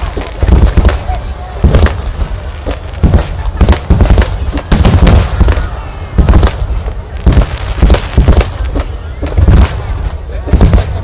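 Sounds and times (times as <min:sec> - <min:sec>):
fireworks booming and cracking: 0:00.0 - 0:11.0.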